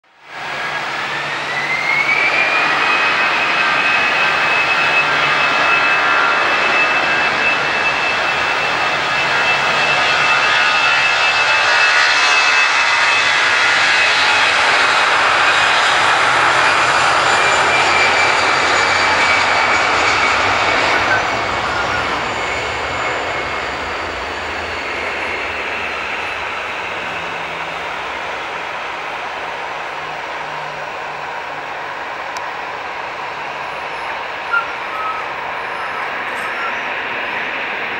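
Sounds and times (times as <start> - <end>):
jet engines at takeoff thrust: 0.1 - 37.9.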